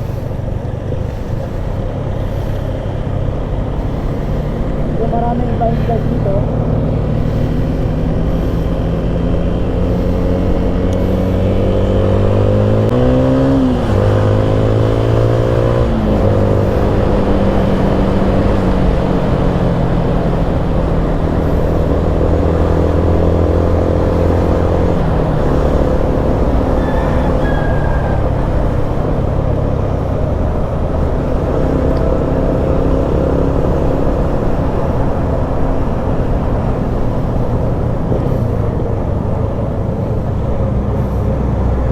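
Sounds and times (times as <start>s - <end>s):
motorcycle engine shifting gears: 0.0s - 41.9s
wind and road noise: 0.0s - 41.9s.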